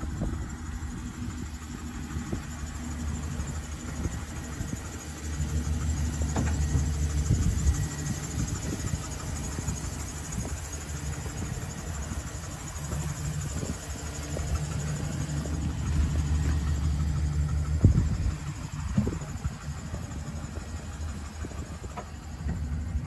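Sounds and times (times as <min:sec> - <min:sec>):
pickup engine idling: 0:00.0 - 0:23.0.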